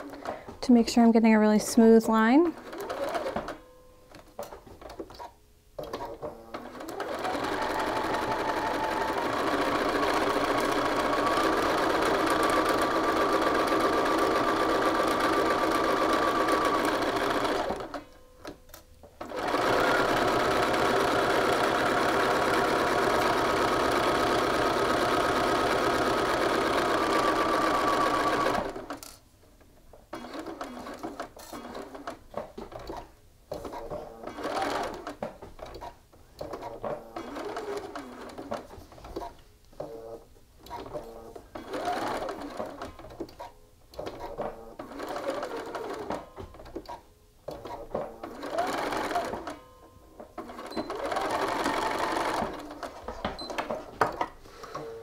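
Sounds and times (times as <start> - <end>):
sewing machine stitching: 2.4 - 3.6, 4.4 - 18.6, 19.2 - 29.2, 30.1 - 55.0.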